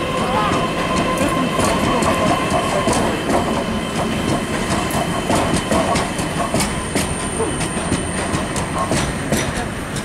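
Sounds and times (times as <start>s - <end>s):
train running noise: 0.0s - 10.0s
wheels clicking over rail joints: 0.2s - 10.0s.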